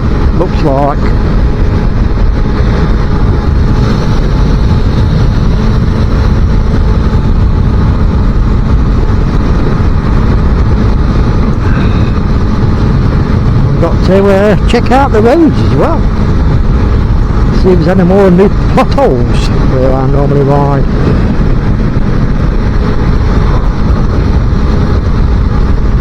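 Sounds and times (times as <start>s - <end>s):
motorcycle engine running: 0.0s - 26.0s
wind rush on microphone: 0.0s - 26.0s.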